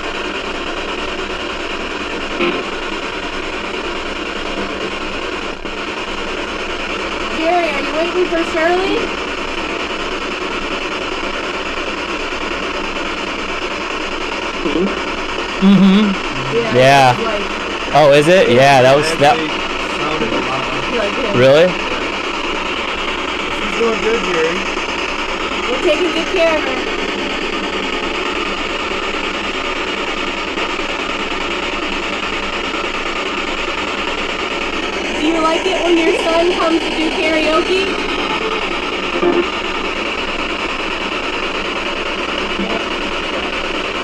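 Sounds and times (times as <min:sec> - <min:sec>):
static hiss: 0:00.0 - 0:44.0.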